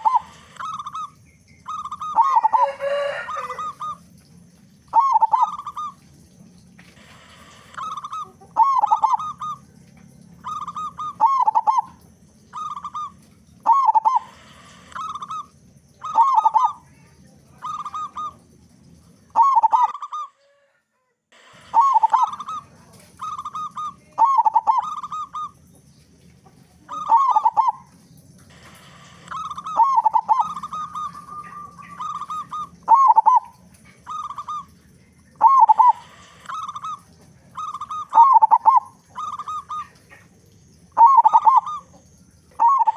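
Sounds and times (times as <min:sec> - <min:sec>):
zebra dove cooing: 0:00.0 - 0:04.2, 0:04.8 - 0:20.8, 0:21.4 - 0:42.9.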